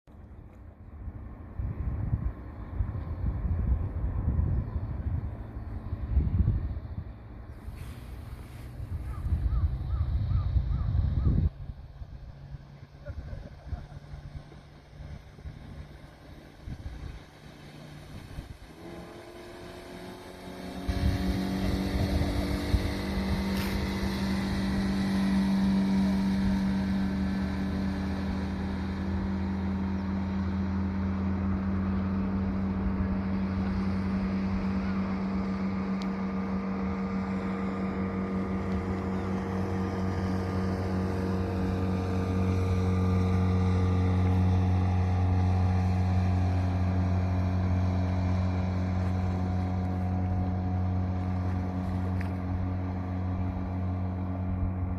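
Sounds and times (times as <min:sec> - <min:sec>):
boat engine revving: 0:02.3 - 0:54.9.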